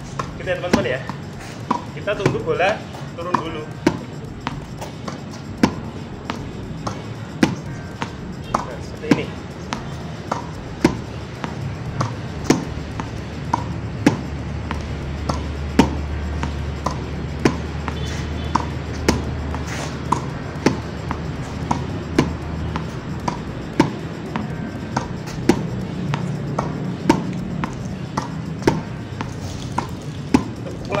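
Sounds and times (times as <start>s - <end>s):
racket hitting tennis ball: 0.0s - 31.0s
tennis ball bouncing on court: 0.0s - 31.0s.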